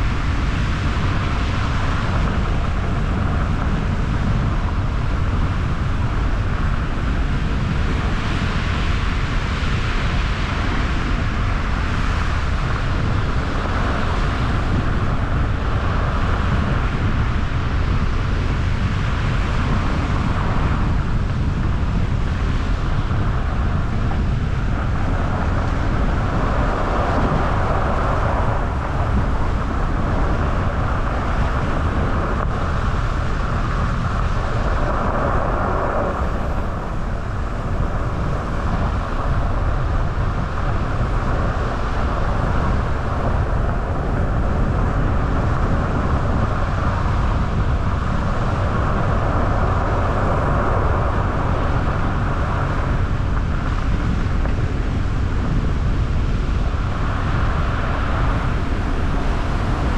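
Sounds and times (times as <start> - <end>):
car engine low rumble: 0.0 - 59.9
road and tyre noise: 0.0 - 59.9
wind: 0.0 - 59.9.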